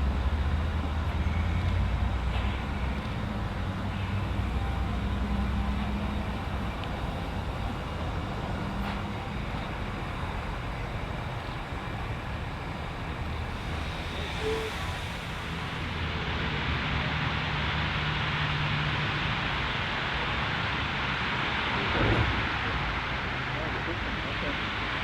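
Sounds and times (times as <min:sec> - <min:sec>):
steam train rumbling: 0:00.0 - 0:25.0.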